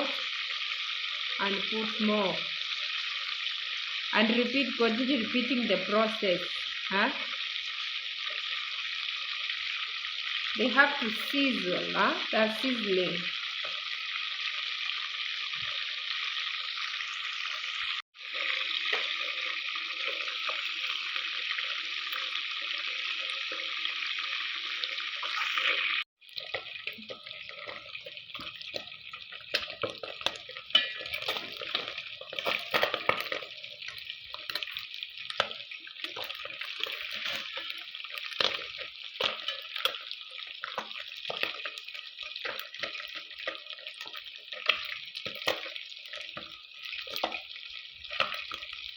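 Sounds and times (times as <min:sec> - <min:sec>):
fish deep frying in oil: 0:00.0 - 0:48.9.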